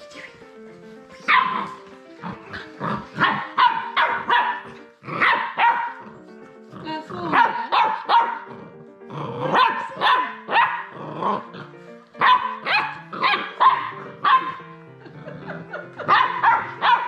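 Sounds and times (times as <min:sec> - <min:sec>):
puppies barking: 0:01.1 - 0:06.4, 0:07.2 - 0:08.8, 0:09.4 - 0:17.0.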